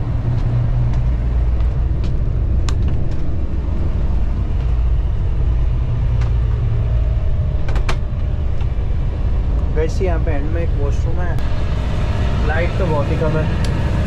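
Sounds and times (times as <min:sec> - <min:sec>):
bus rumbling: 0:00.0 - 0:14.0.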